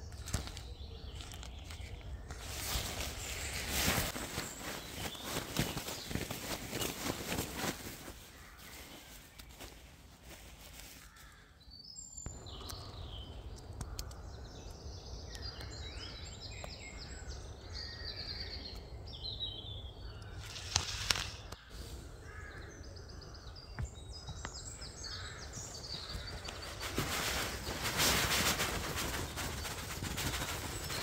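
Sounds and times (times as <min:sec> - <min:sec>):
forest birds chirping: 0:00.0 - 0:31.0.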